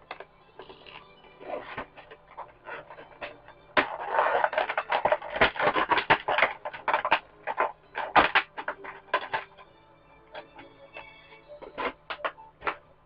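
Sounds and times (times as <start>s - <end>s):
plastic packaging rustling and clicking: 0.0s - 13.0s.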